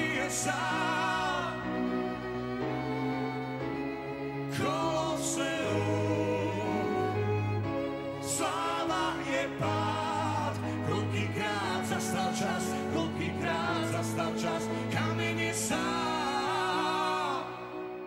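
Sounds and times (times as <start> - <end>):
grand piano: 0.0 - 18.0
person singing: 0.0 - 18.0
string orchestra: 0.0 - 18.0.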